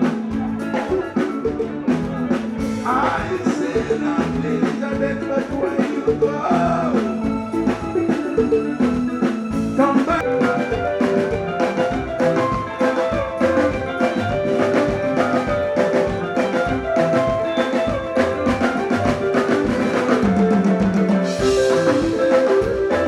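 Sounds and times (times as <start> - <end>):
fast drum-kit beat: 0.0 - 23.0
live band instrumental: 0.0 - 23.0.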